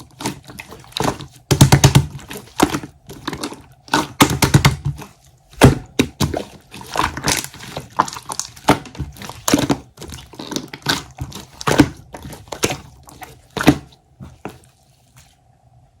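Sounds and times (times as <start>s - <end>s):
slime being squished: 0.0s - 15.5s.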